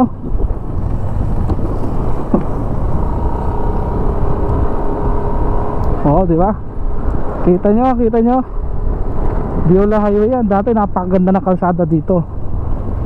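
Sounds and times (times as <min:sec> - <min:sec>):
scooter engine and tyres: 0:00.0 - 0:11.2, 0:12.2 - 0:13.0
wind on microphone: 0:00.0 - 0:11.4.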